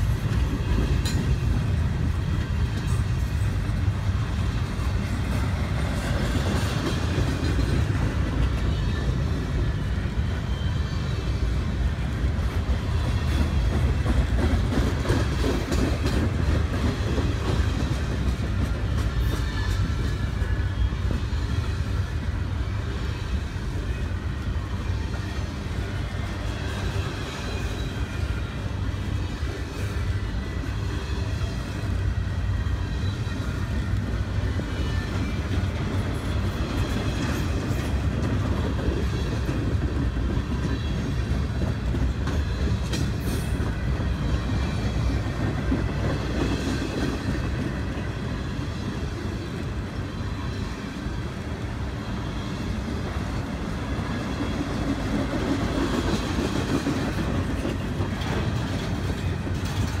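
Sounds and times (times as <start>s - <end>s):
freight train wheels rumbling on rails: 0.0s - 60.0s.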